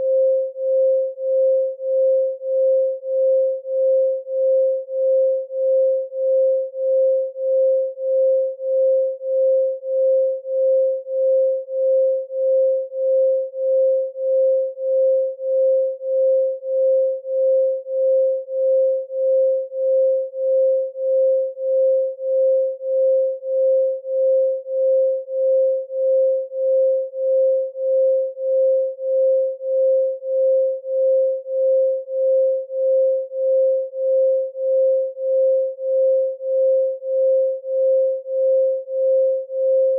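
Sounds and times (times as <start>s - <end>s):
pulsing sine tone: 0.0s - 39.9s.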